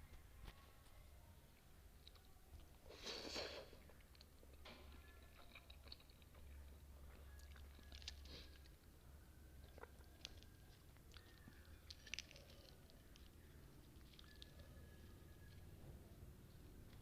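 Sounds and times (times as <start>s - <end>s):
close-miked chewing: 1.5s - 17.0s.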